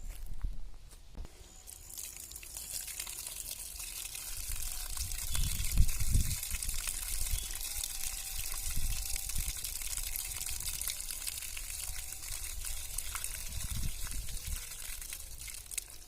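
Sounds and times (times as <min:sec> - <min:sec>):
water pouring from plastic can: 0:01.7 - 0:16.0.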